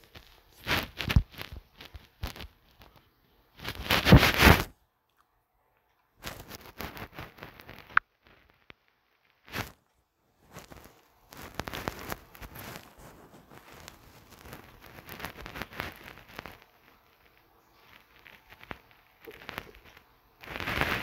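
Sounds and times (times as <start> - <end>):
rustling crackling noise: 0.0 - 21.0.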